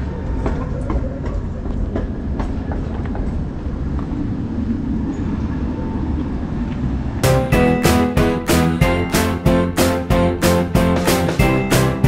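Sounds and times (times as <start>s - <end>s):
rail vehicle rumbling past: 0.0s - 12.0s.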